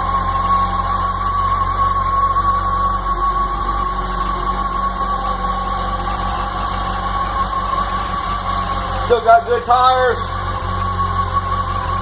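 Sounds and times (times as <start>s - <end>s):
motorcycle engine idling: 0.0s - 12.0s
steady high tone: 0.0s - 12.0s.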